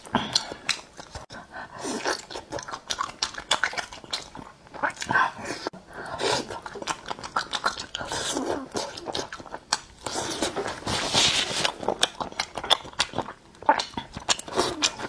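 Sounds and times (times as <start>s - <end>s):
chewing food close up: 0.0s - 5.2s, 6.2s - 15.0s.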